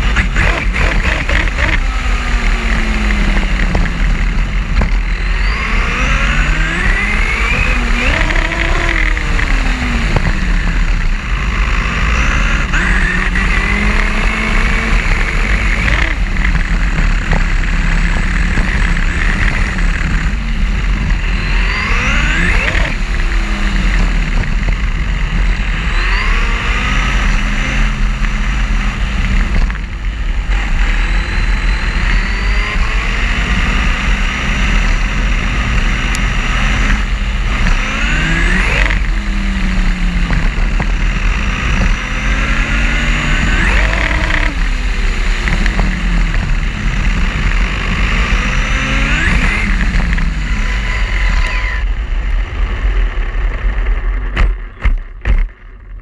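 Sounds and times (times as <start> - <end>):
electric motor whine: 0.0 - 52.1
wind and tyre noise rushing: 0.0 - 56.0.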